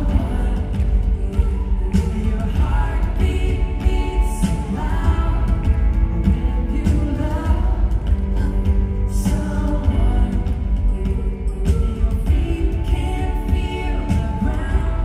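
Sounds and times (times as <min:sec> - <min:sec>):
acoustic guitar: 0:00.0 - 0:15.0
drums: 0:00.0 - 0:15.0
person singing: 0:00.0 - 0:15.0.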